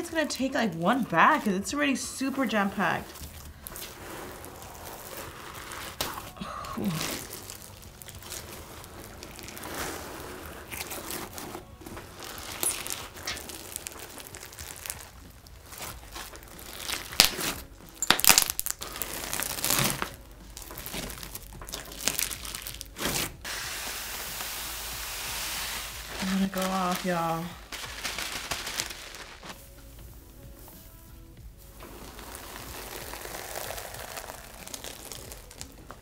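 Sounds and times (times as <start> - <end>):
slime crunchy crackling: 2.6 - 23.5, 25.6 - 29.6, 31.7 - 36.0.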